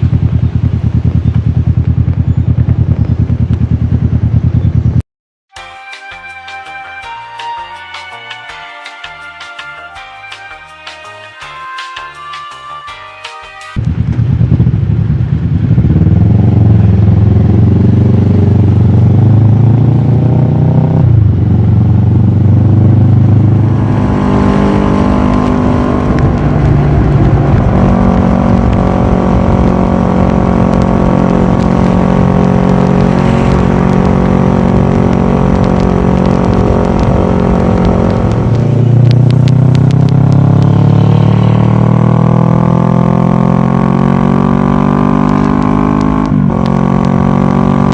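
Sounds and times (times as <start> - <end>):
motorcycle engine revving: 0.0 - 5.0, 13.8 - 47.9.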